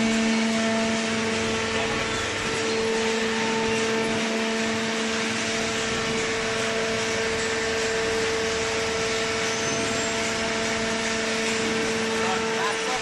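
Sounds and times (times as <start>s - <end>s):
baler machine humming: 0.0s - 13.0s.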